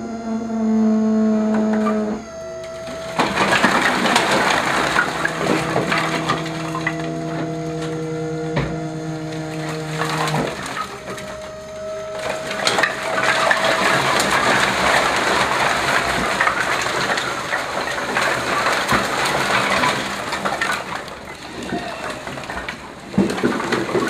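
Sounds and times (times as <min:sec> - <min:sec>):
mechanical hum: 0:00.0 - 0:24.0
firewood clattering onto pile: 0:02.6 - 0:24.0.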